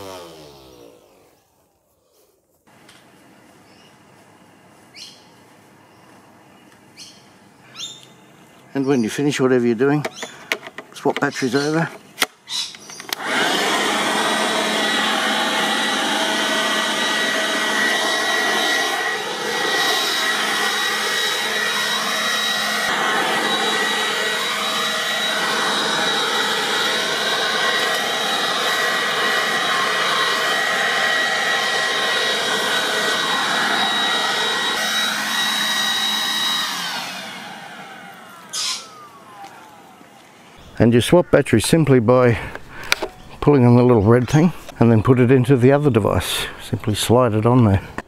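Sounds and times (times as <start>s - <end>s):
leaf blower whining: 0.0s - 5.1s, 12.8s - 48.0s.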